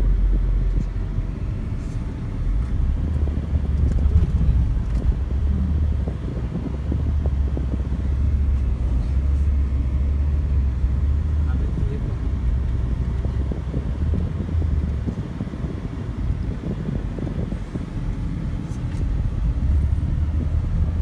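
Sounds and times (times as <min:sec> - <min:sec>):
car driving rumble from inside: 0:00.0 - 0:21.0.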